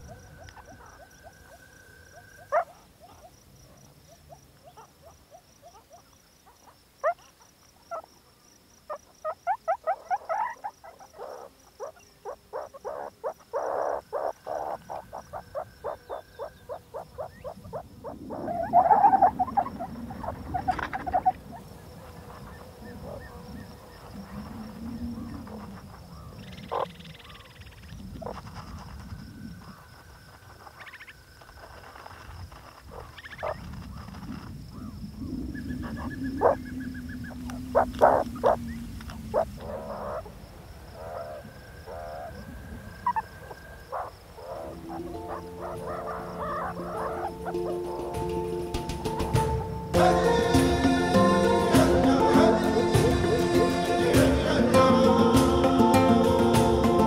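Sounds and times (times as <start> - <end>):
small animals chirping and clucking: 0.0 - 8.1, 8.9 - 55.7
high pulsing insect trill: 0.0 - 57.0.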